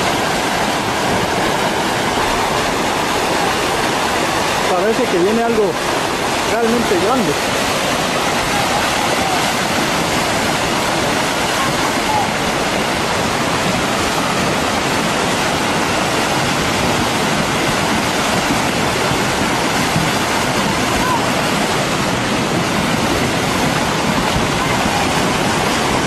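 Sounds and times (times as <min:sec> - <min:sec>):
mudflow rushing down channel: 0:00.0 - 0:26.0.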